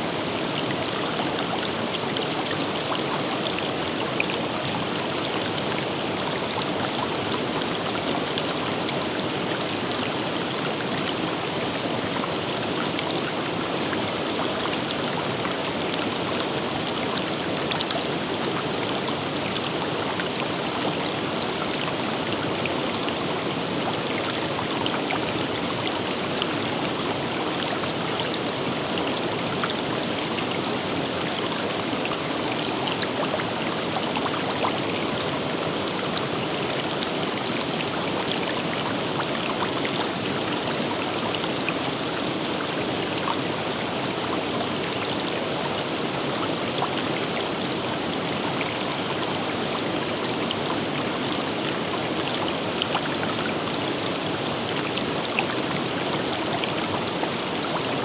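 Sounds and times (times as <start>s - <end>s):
river water flowing over rocks: 0.0s - 58.0s.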